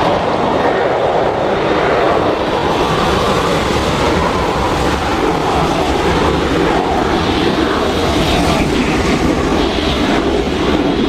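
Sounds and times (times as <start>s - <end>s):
jet engines at take-off thrust: 0.0s - 11.0s.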